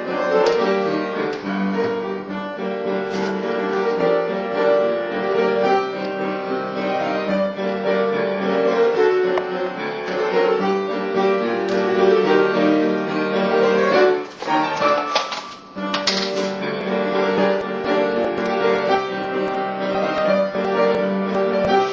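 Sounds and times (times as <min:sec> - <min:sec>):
piano with bowed strings: 0:00.0 - 0:21.9.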